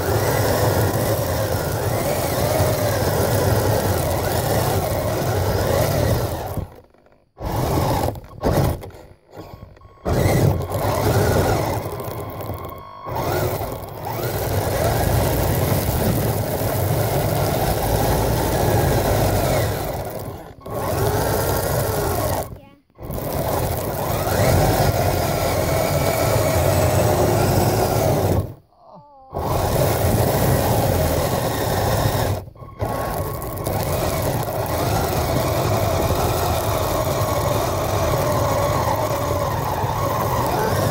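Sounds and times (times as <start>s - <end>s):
toy motor and tracks on snow: 0.0s - 40.9s.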